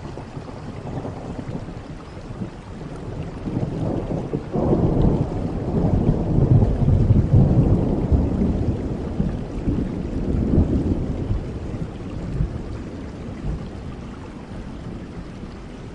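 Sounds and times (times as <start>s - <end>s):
steady rain: 0.0s - 15.9s
thunder rumbling: 0.0s - 15.9s.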